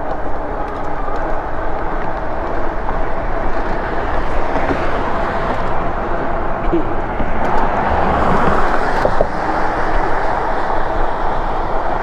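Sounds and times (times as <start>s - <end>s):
tyre noise on road: 0.0s - 12.0s
wind on microphone: 0.0s - 12.0s.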